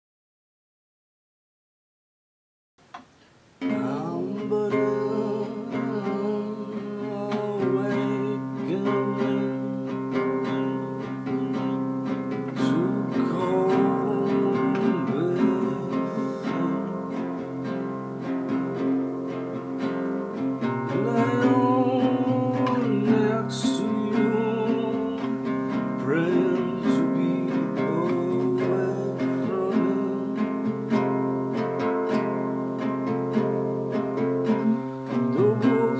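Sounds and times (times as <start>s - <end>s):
acoustic guitar: 2.8s - 35.9s.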